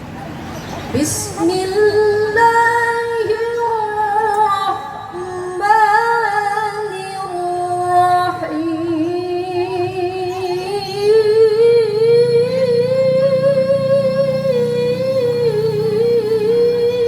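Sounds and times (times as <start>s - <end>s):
person reciting melodically: 0.8s - 17.0s.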